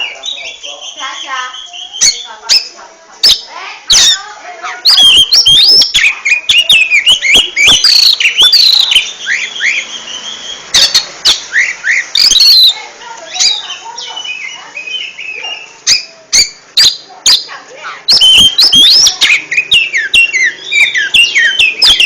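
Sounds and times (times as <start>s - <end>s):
bird singing whistles and chirps: 0.0s - 4.2s, 4.8s - 17.5s, 18.1s - 22.0s.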